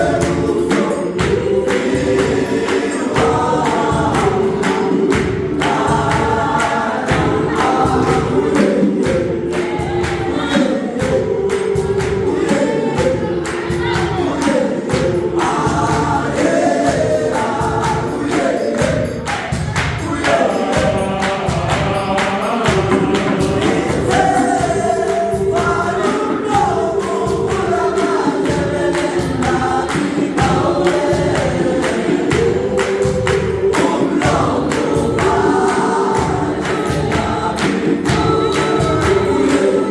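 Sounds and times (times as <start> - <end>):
gospel choir singing: 0.0 - 39.9
rhythmic beat of sharp strikes: 0.0 - 39.9.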